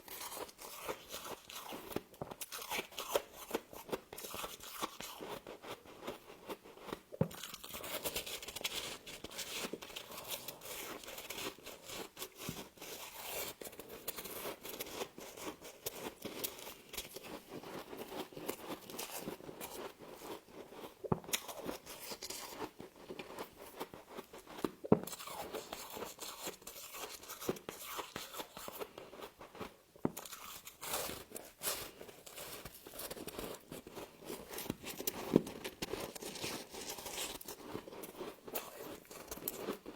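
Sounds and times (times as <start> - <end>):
frost crunching when chewed: 0.0 - 39.9.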